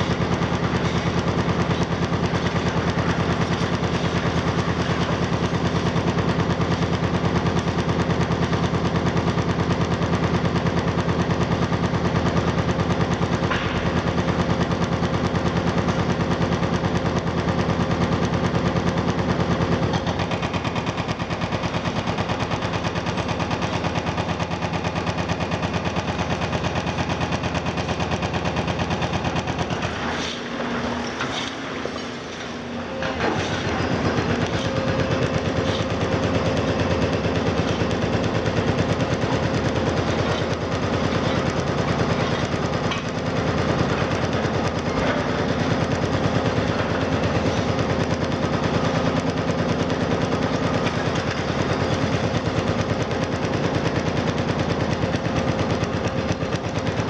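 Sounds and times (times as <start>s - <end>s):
hydraulic breaker hammering concrete: 0.0s - 57.0s.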